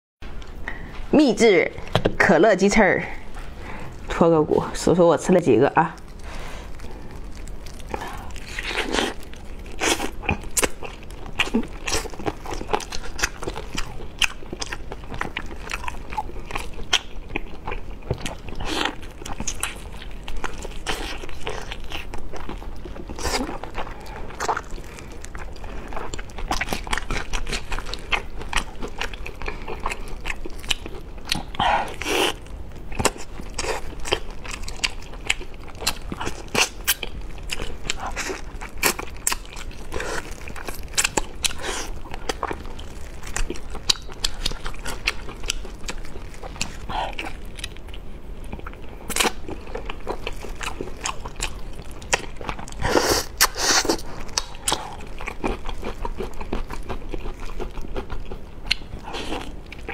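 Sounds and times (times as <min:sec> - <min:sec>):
low steady hum: 0:00.2 - 0:59.9
chewing and biting: 0:06.0 - 0:59.9.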